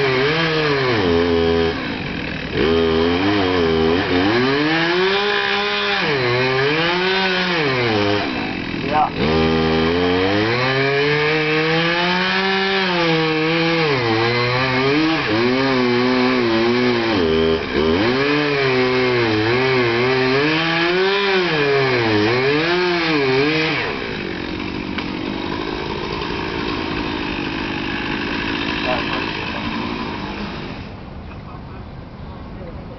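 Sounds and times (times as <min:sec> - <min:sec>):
chainsaw cutting wood: 0:00.0 - 0:31.0.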